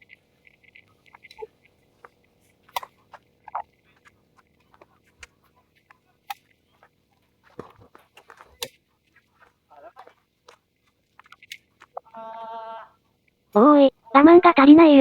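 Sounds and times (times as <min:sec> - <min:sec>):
faint crackling: 0:00.0 - 0:14.2.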